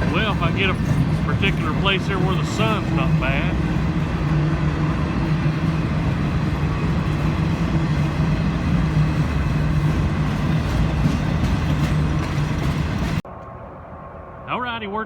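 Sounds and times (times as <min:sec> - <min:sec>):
freight train cars rumbling: 0:00.0 - 0:15.0.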